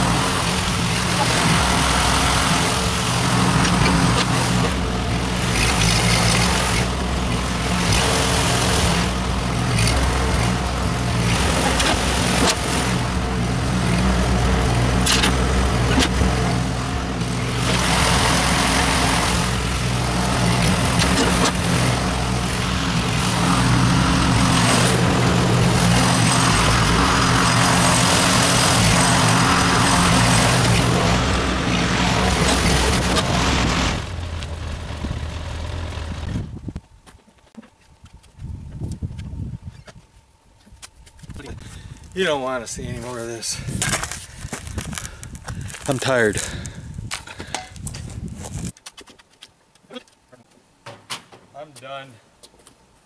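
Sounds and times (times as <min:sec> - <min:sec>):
engine running steadily: 0:00.0 - 0:36.9, 0:41.0 - 0:48.7.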